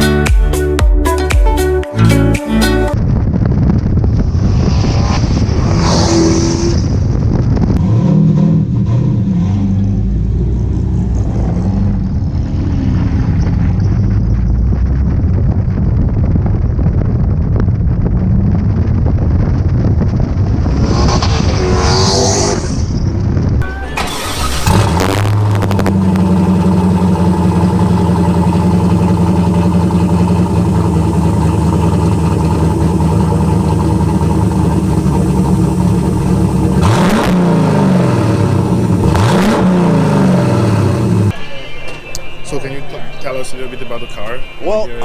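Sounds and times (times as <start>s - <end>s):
car engine running loudly: 2.9s - 42.2s.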